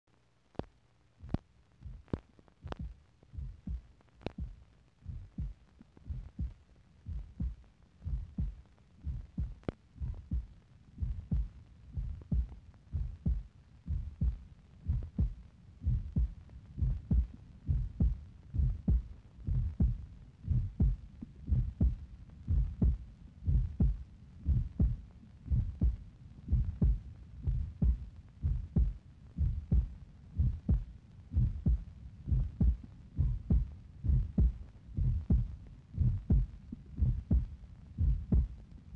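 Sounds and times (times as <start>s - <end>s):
faint clicks: 0.5s - 31.9s
low thumping pulse: 1.2s - 38.7s.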